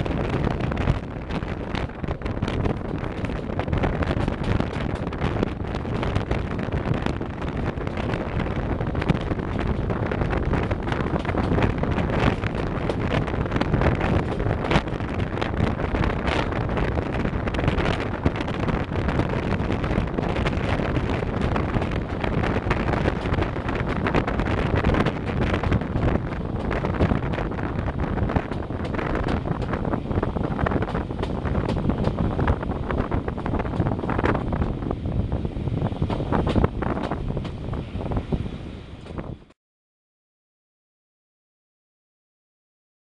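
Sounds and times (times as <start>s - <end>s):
vehicle engine rumble: 0.0s - 39.6s
wind buffeting microphone: 0.0s - 39.6s.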